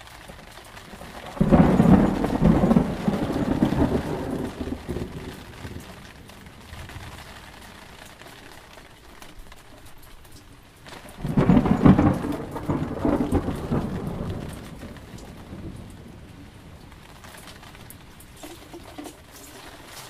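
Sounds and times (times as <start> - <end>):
thunder rumble: 0.0 - 8.8, 10.9 - 19.3
steady rain: 0.0 - 20.0.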